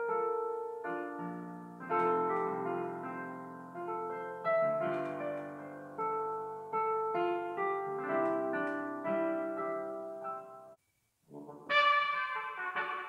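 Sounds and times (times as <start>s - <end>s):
slow piano chords and melody: 0.0s - 10.8s.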